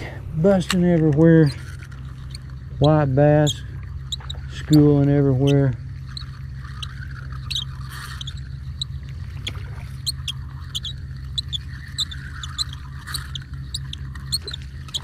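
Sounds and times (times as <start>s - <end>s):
fishing reel whirring: 0.0s - 15.0s
light clicks and squeaks: 0.5s - 15.0s.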